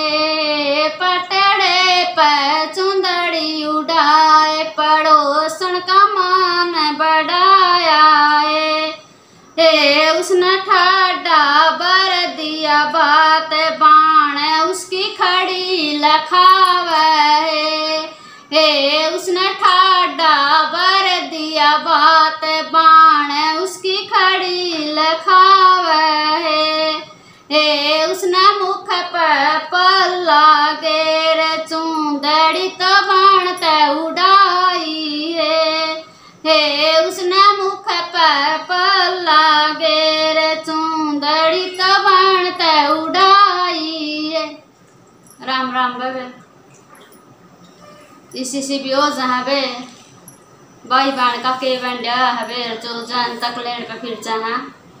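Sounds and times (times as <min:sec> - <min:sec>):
woman singing unaccompanied: 0:00.0 - 0:44.7, 0:45.4 - 0:46.4, 0:48.3 - 0:50.1, 0:50.9 - 0:54.8.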